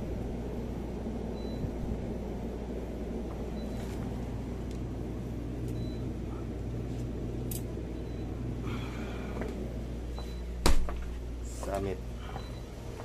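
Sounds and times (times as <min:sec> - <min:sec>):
cooler electrical hum: 0:00.0 - 0:13.0.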